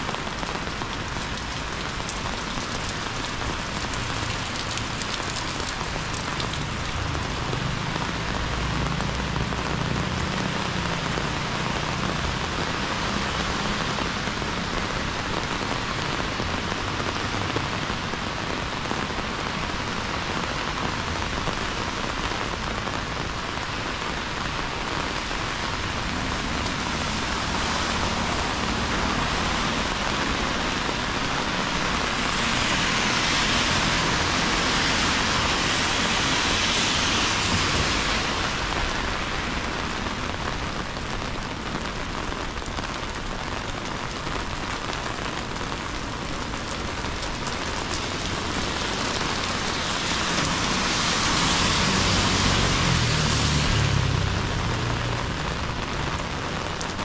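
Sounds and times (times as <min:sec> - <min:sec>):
heavy rain on a street: 0:00.0 - 0:57.0.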